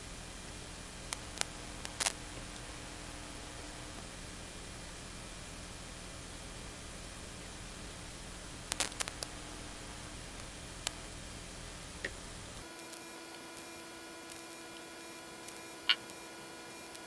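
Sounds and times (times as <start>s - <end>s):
low hum: 0.0s - 17.0s
steady hiss: 0.0s - 17.0s.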